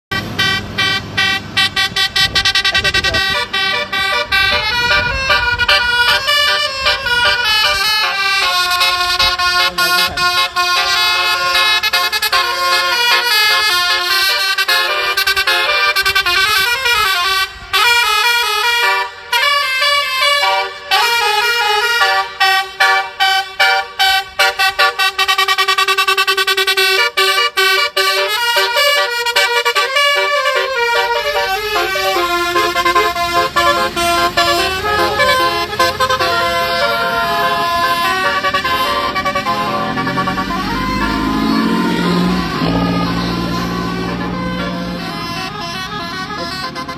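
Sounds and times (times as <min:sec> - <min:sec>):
musical air horn melody: 0:00.1 - 0:46.9.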